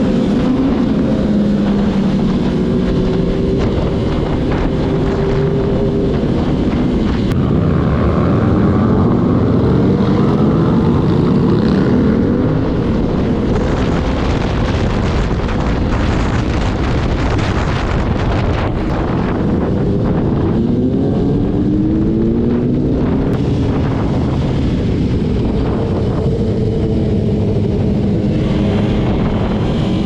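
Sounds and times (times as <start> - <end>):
motorcycle engine revving: 0.0 - 30.0
wind noise on microphone: 0.0 - 30.0.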